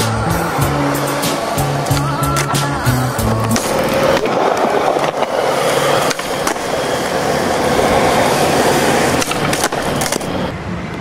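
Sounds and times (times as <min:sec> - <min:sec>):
skateboard wheels rolling on concrete: 0:00.0 - 0:11.0
skateboard clacking on ground: 0:01.3 - 0:10.5.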